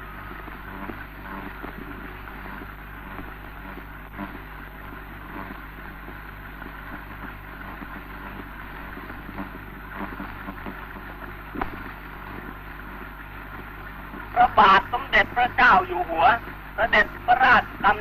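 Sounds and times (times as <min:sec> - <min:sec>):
crackles and pops: 0:00.0 - 0:18.0
film soundtrack hiss: 0:00.0 - 0:18.0
low electrical hum: 0:00.0 - 0:18.0.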